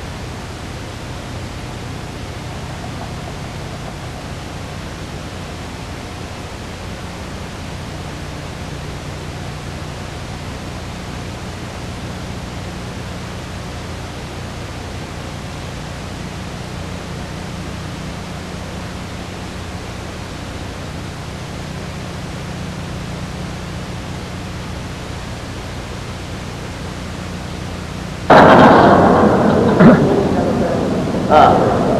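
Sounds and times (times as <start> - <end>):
recording hiss with low hum: 0.0 - 31.9.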